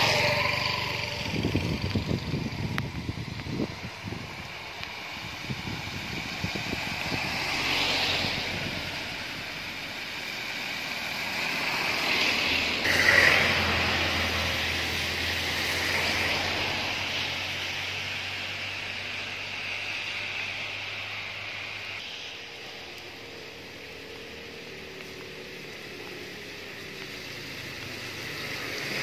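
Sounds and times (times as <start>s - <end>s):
tyres hissing on wet road: 0.0s - 29.0s.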